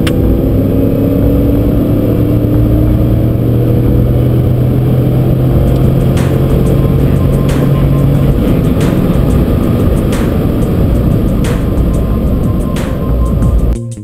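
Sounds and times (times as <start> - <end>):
car engine and exhaust droning: 0.0 - 13.8
road noise: 0.0 - 13.8.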